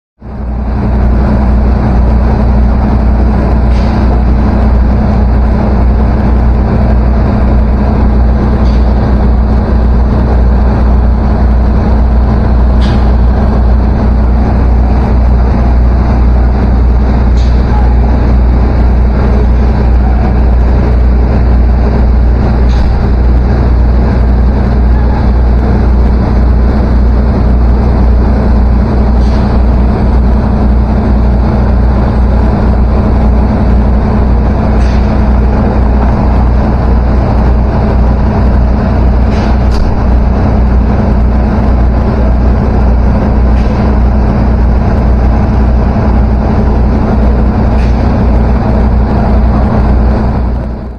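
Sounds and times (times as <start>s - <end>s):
large machinery droning: 0.2s - 50.9s.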